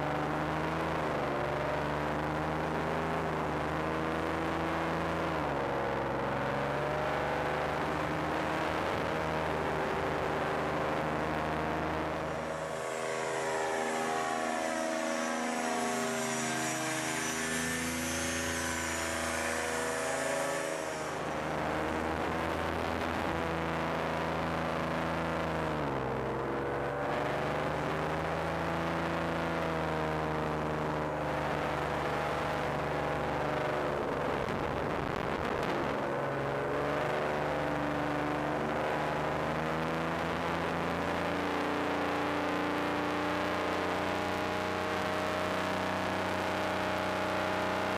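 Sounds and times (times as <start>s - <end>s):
paramotor engine and propeller drone: 0.0s - 47.9s.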